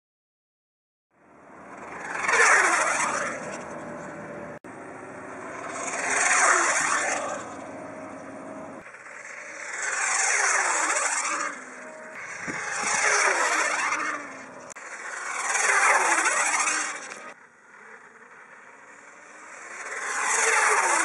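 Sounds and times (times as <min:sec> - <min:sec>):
rc car passing at speed: 0:01.2 - 0:21.0.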